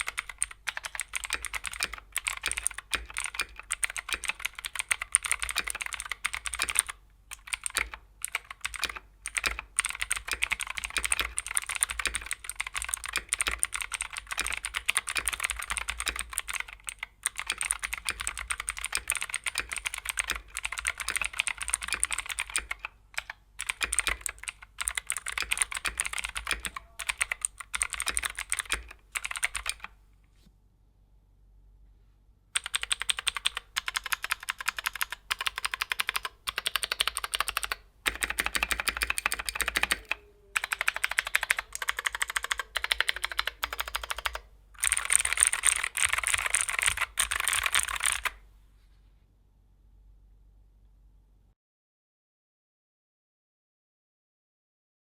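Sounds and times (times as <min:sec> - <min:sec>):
clicky mechanical keyboard typing: 0:00.0 - 0:30.0, 0:32.6 - 0:48.4.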